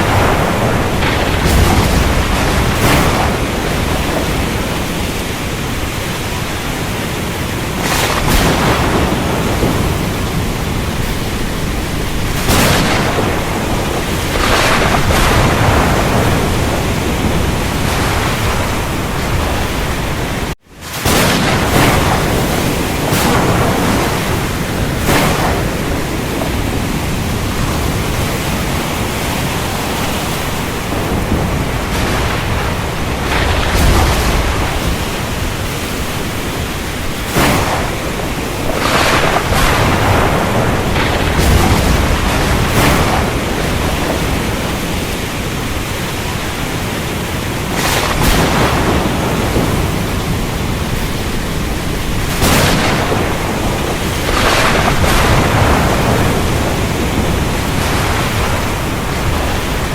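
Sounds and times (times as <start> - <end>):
heavy rain: 0.0 - 59.9
low rumble of thunder: 0.0 - 59.9.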